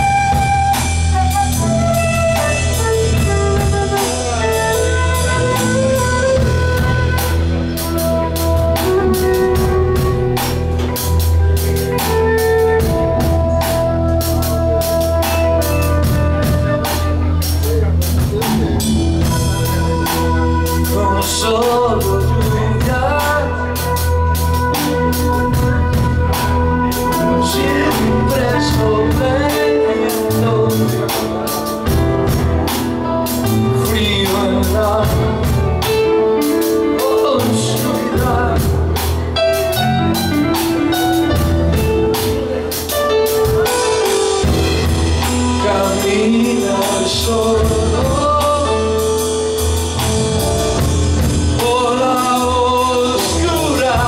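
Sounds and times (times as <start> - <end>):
bass guitar: 0.0 - 54.0
drum kit: 0.0 - 54.0
electric guitar: 0.0 - 54.0
man singing: 0.0 - 54.0.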